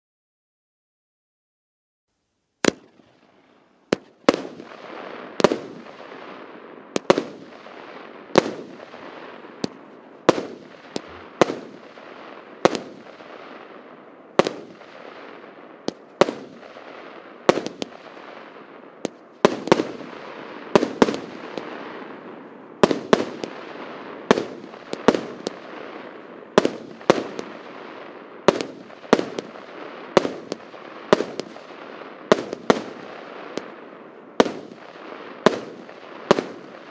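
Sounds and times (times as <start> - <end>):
fireworks cake bangs: 2.6 - 3.1, 3.9 - 6.4, 7.0 - 33.8, 34.4 - 36.9.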